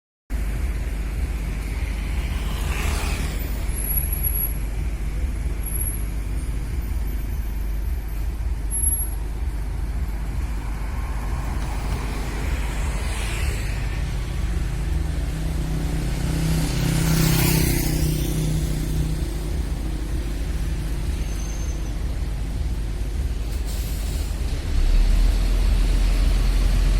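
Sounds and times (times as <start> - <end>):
truck diesel engine rumble: 0.3 - 26.9.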